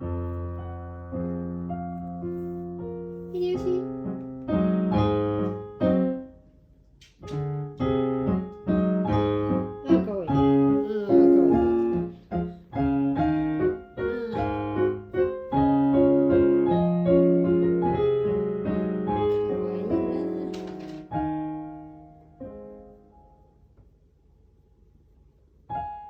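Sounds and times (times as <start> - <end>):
piano music: 0.0 - 6.5, 7.2 - 23.7.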